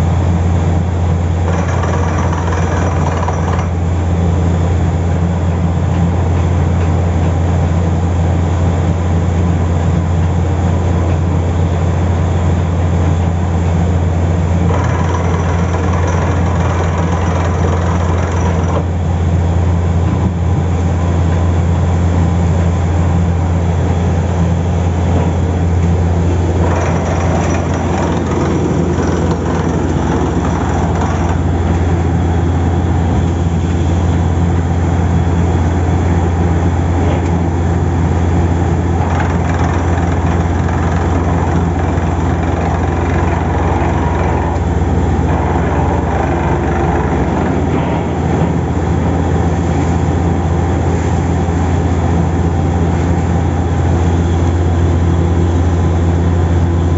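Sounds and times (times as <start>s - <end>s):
drilling rig droning: 0.1s - 5.2s, 12.0s - 56.9s.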